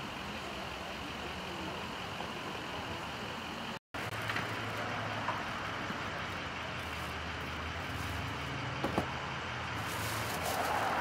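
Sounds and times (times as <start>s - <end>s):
low engine hum: 0.0s - 11.0s
road traffic hiss and rumble: 0.0s - 11.0s.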